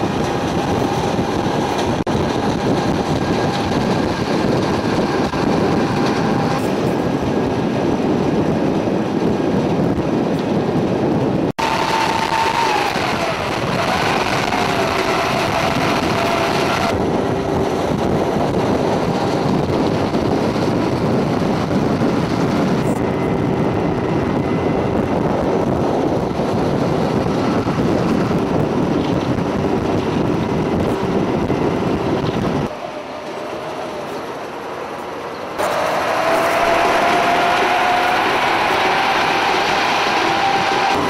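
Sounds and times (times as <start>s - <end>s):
road rumble: 0.0s - 41.0s
vehicle engine drone: 0.0s - 41.0s
wind buffeting microphone: 0.0s - 41.0s.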